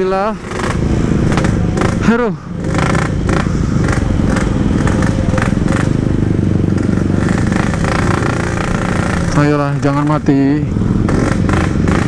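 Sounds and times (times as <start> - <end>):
motorcycle engine running roughly: 0.0 - 12.0.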